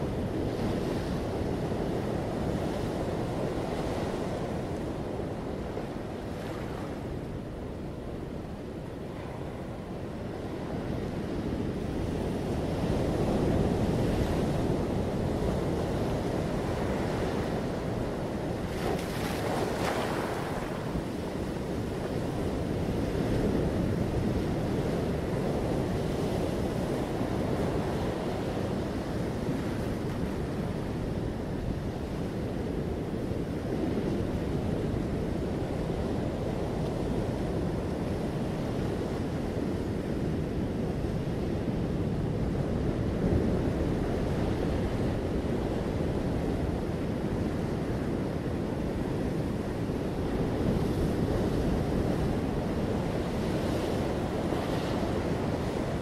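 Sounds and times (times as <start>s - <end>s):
sea surf on rocky shore: 0.0s - 56.0s.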